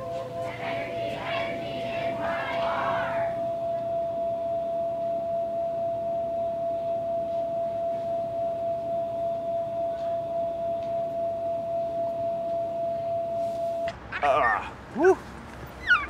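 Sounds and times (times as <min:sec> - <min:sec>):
steady pure tone: 0:00.0 - 0:15.2.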